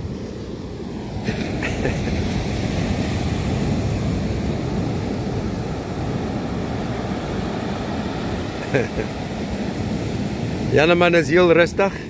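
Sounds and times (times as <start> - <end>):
surf breaking on beach: 0.0 - 12.0
wind rumbling on microphone: 0.0 - 12.0.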